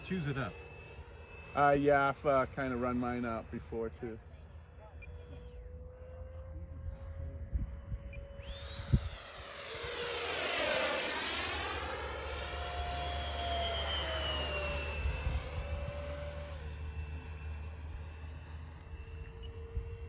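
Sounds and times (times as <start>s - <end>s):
model airplane motor whine: 0.0s - 20.0s.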